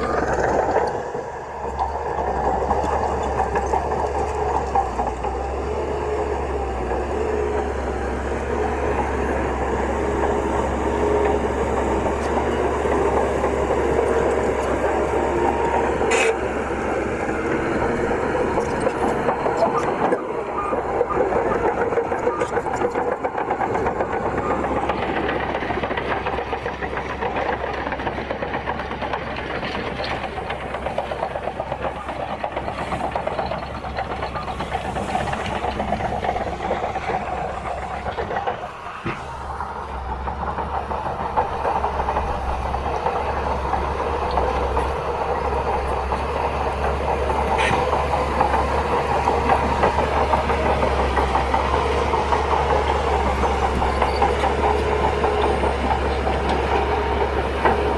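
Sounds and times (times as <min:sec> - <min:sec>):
bulldozer diesel engine: 0:00.0 - 0:57.9
steel tracks clattering: 0:00.0 - 0:57.9.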